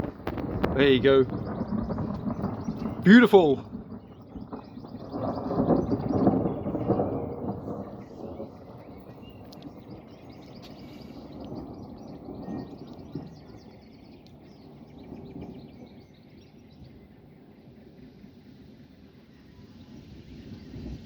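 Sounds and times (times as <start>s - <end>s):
thunder rumbling: 0.0s - 21.0s
small birds chirping: 0.2s - 21.0s.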